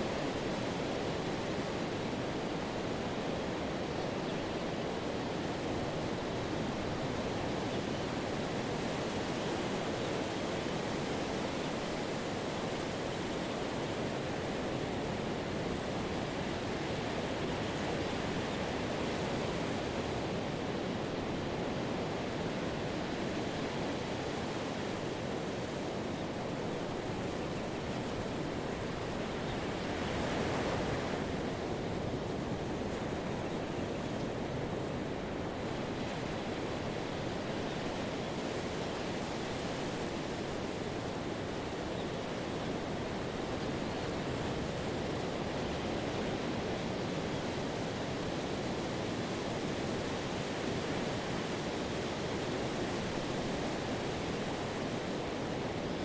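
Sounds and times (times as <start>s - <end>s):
surf washing up a beach: 0.0s - 56.0s.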